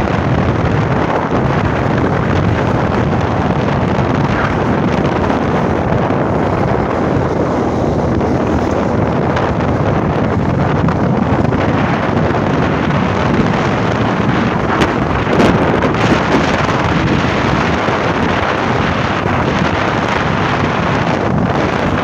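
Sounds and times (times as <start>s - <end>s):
truck passing: 0.0s - 22.0s
wind buffeting microphone: 0.0s - 22.0s.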